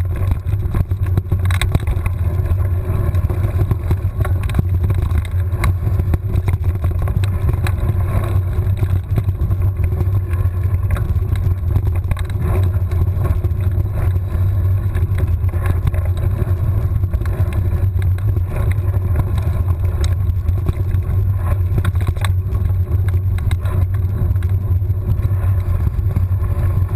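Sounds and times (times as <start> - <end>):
bike rattling over bumps: 0.0 - 26.9
bike tyre noise on dirt: 0.0 - 26.9.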